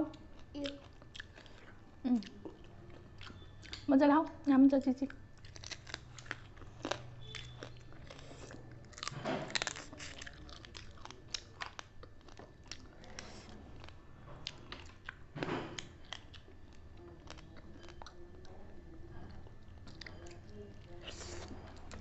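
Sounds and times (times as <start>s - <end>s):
chewing and crunching food: 0.0s - 22.0s.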